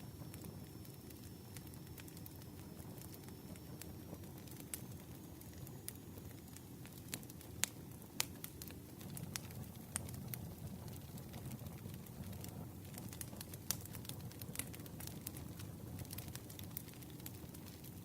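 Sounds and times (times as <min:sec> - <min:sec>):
campfire crackling and popping: 0:00.0 - 0:18.0
low rumble of fire: 0:00.0 - 0:18.0.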